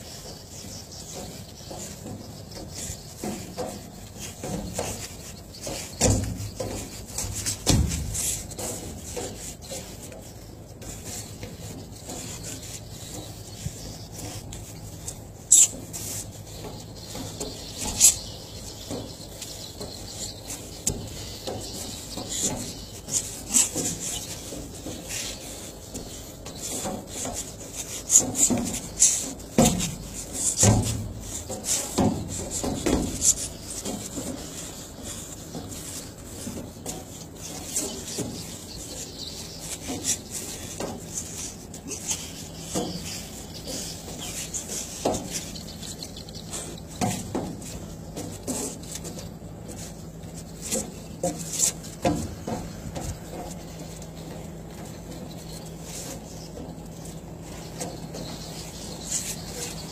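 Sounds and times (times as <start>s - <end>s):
footsteps scuffing on deck: 0.0s - 59.9s.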